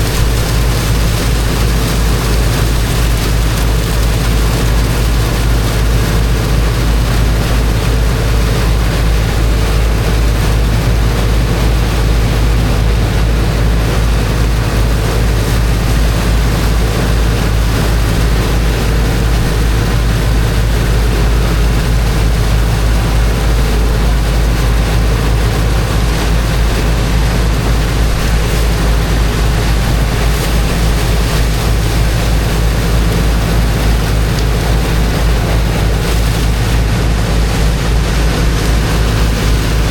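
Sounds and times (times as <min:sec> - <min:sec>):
water jet blasting into sand: 0:00.0 - 0:39.9
water pump engine running: 0:00.0 - 0:39.9.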